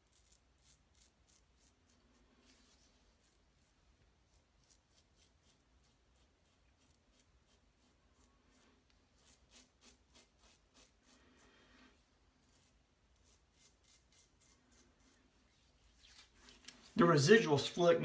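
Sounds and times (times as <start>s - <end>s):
razor scraping stubble: 0.0s - 11.5s, 12.4s - 16.7s.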